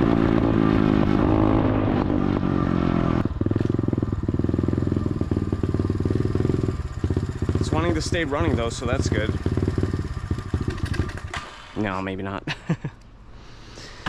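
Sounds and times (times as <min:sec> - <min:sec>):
motorbike engine revving and idling: 0:00.0 - 0:12.0.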